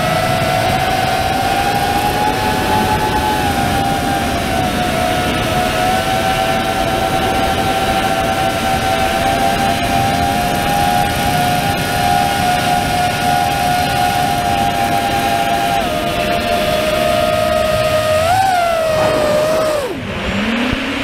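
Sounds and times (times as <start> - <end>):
drone motors whining: 0.0 - 21.0
steady rushing noise: 0.0 - 21.0.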